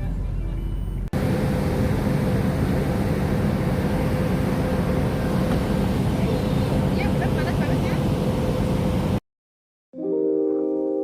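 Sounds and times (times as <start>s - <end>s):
ferry engines rumbling: 0.0s - 9.2s.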